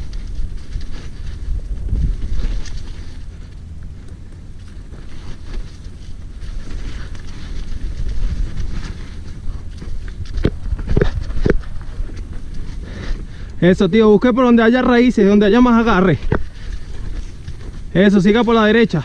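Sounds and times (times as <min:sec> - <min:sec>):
wind buffeting microphone: 0:00.0 - 0:18.5
bike rattles and knocks: 0:00.0 - 0:19.0
bike tyre rumble: 0:00.0 - 0:19.0.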